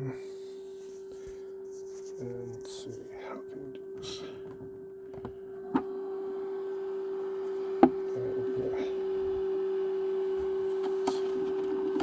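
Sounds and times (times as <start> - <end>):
appliance electrical hum: 0.0 - 12.0.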